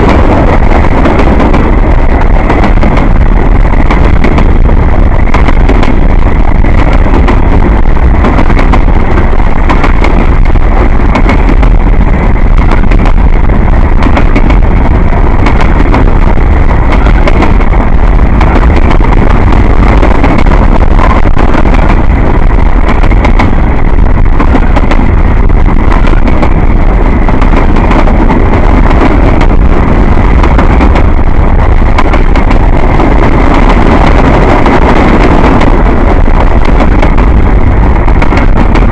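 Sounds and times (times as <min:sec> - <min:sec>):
freight train wheels rattling on rails: 0:00.0 - 0:38.9
wind buffeting microphone: 0:00.0 - 0:38.9.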